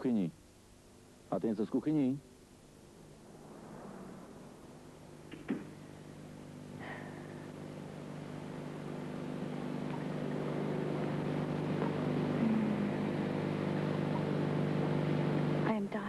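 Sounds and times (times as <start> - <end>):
low engine-like drone: 2.6 - 16.0.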